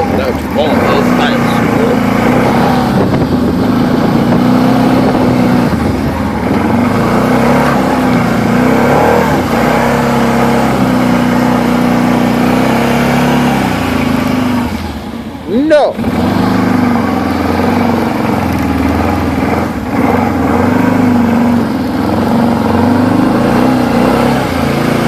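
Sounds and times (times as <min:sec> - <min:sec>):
quad engine running: 0:00.0 - 0:25.0.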